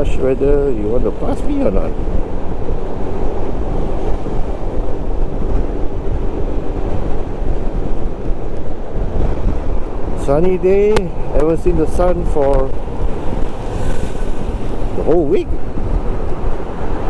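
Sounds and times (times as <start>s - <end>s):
motorcycle engine and road drone: 0.0s - 17.0s
wind rushing over microphone: 0.0s - 17.0s.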